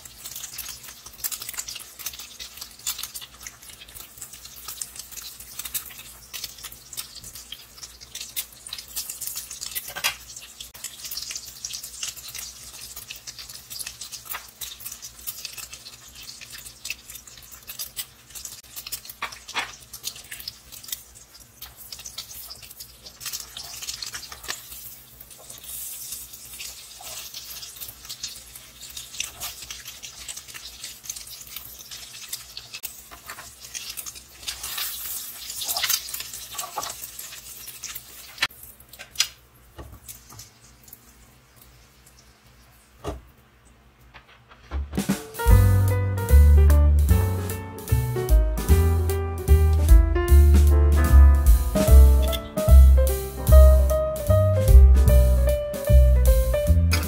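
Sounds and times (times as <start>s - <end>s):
oil sizzling in a wok: 0.0s - 44.0s, 45.0s - 57.0s.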